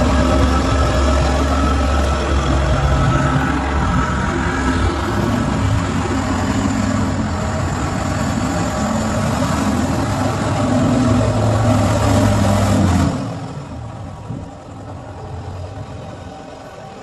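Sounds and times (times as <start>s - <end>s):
broad rushing noise: 0.0s - 17.0s
car engine under heavy throttle: 0.0s - 17.0s.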